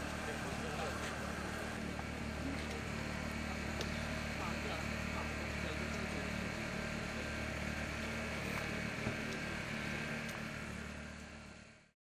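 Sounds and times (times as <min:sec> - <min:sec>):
outdoor street noise: 0:00.0 - 0:11.9.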